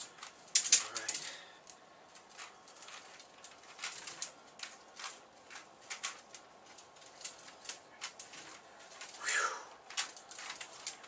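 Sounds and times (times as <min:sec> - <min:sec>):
puzzle cube plastic clicks: 0:00.0 - 0:09.2, 0:09.8 - 0:11.0.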